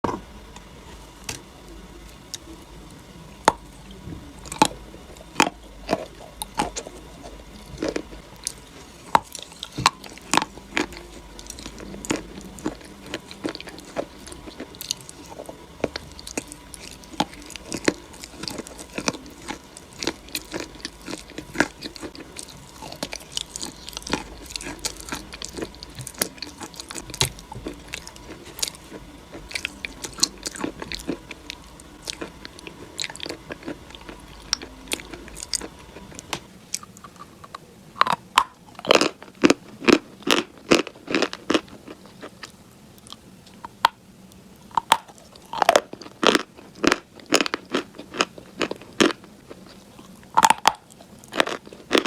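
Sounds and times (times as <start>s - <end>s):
chewing something crunchy: 0.1s - 44.0s, 44.6s - 52.0s.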